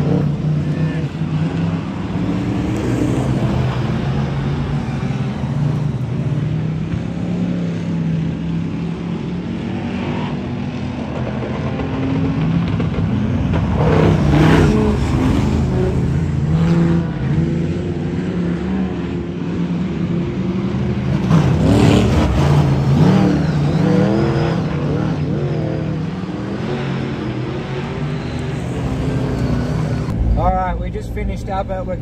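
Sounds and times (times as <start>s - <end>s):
stock car engines racing: 0.0s - 32.0s.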